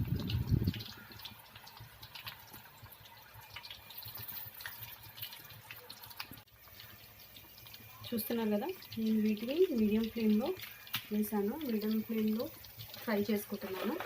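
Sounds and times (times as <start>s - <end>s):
chicken deep-frying in oil: 0.0s - 14.0s.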